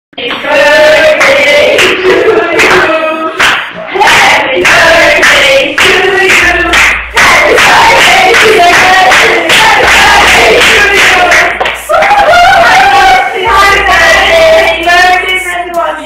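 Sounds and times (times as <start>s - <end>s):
hands clapping: 0.2s - 15.0s
women singing together: 0.2s - 16.0s.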